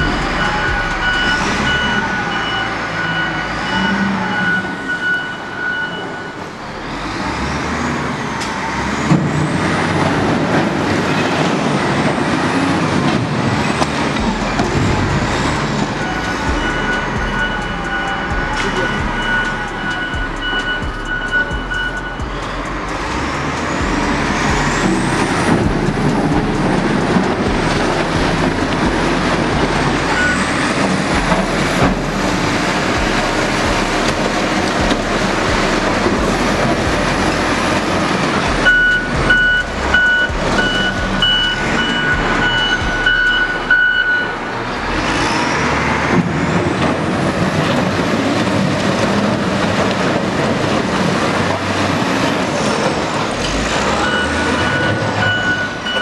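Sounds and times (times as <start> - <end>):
reversing alarm beeping: 0.0 - 7.4, 10.1 - 45.2, 53.1 - 56.0
diesel engine under load: 0.0 - 56.0.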